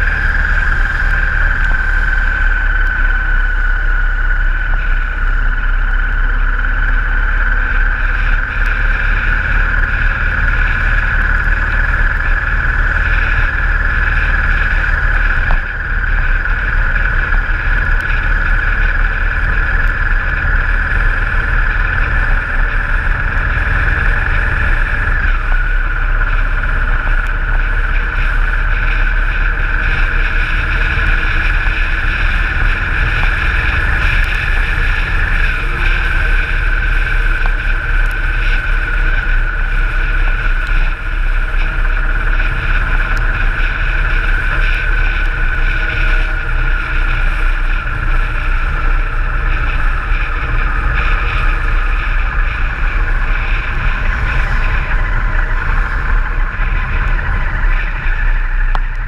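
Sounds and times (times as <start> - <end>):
motorcycle engine cruising: 0.0 - 59.0
wind noise on microphone: 0.0 - 59.0.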